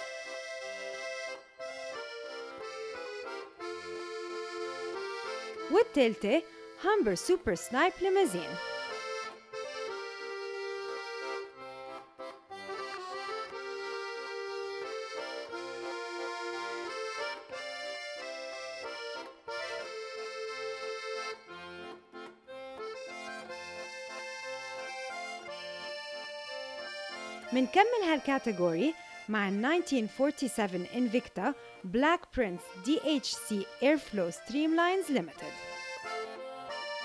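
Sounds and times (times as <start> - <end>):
instrumental music with reedy chords: 0.0 - 37.0.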